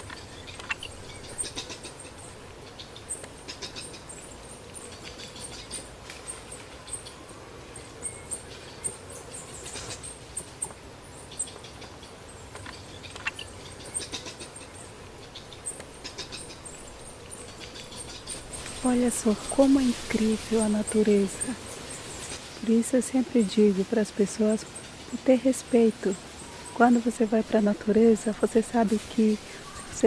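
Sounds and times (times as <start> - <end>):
small animals chirping and squeaking: 0.0 - 7.2, 8.0 - 30.0.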